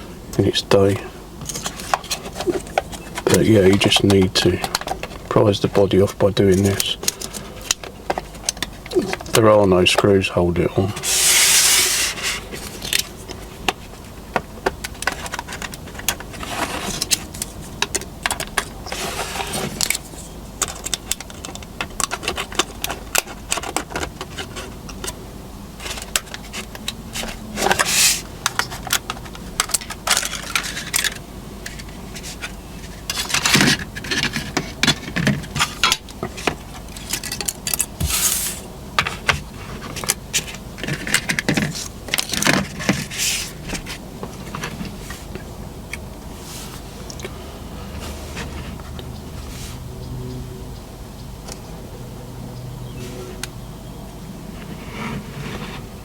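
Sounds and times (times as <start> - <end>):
handling noise: 0.0 - 49.8.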